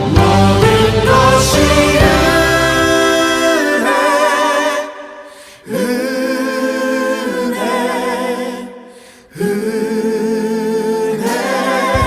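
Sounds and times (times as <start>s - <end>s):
voices singing a worship song: 0.0s - 12.0s.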